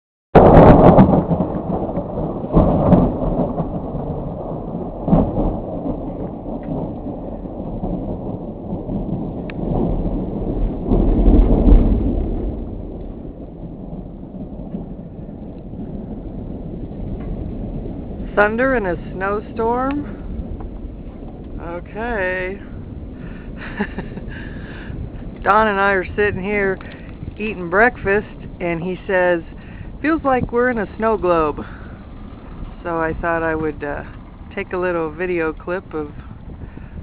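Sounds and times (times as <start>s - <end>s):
thunder crack and rumble: 0.4s - 37.0s.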